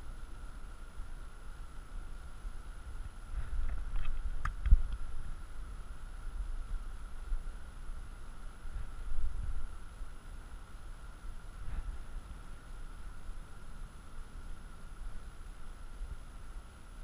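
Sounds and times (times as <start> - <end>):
wind rumbling on microphone: 2.0 - 17.0.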